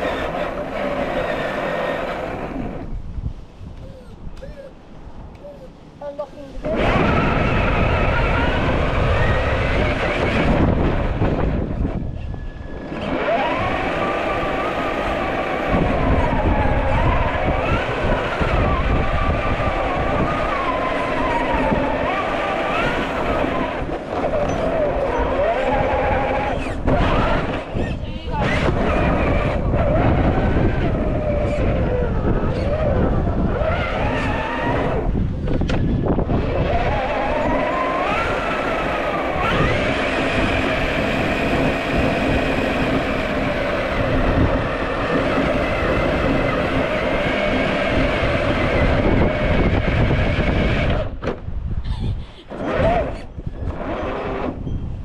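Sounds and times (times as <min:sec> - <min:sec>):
electric motor whining: 0:00.0 - 0:03.0, 0:06.6 - 0:51.2
constant low rumble: 0:00.0 - 0:55.0.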